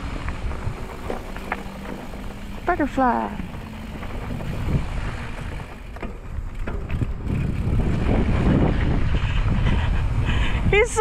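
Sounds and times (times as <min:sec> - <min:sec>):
tyre rumble on dirt: 0:00.0 - 0:09.1
bike knocks and rattles: 0:00.0 - 0:09.3
wind rushing over microphone: 0:00.0 - 0:11.0.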